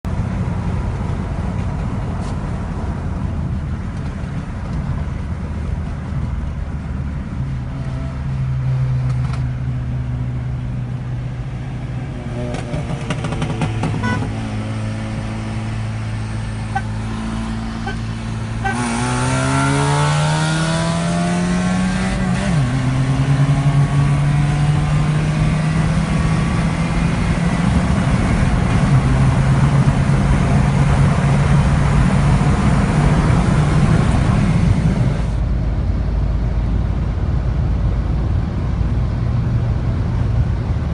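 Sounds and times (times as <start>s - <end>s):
car engine accelerating: 4.0s - 40.9s.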